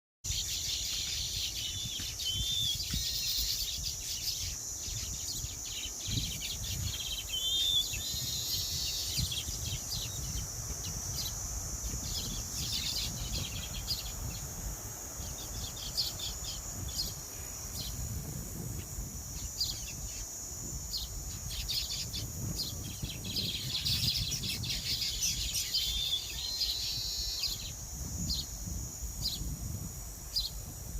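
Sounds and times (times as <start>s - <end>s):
small birds chirping: 0.3s - 28.6s
high-pitched insect drone: 0.3s - 30.9s
wind on microphone: 0.3s - 30.9s.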